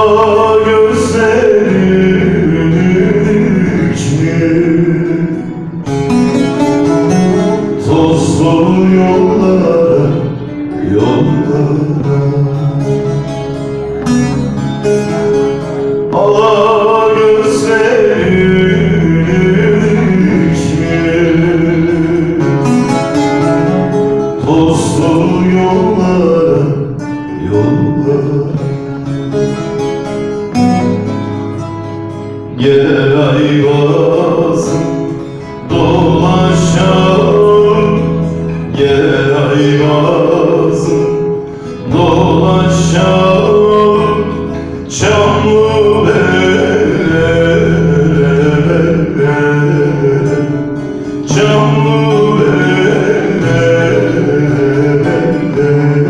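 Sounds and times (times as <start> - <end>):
man singing into a microphone: 0.0 - 30.1, 32.3 - 56.0
plucked long-necked lute: 0.0 - 56.0.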